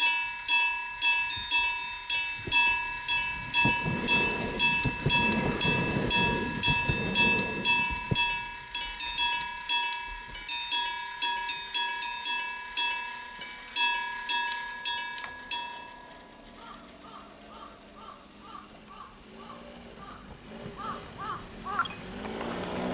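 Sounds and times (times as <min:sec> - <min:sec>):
level crossing electric bell: 0:00.0 - 0:19.2
low train rumble: 0:00.0 - 0:22.9.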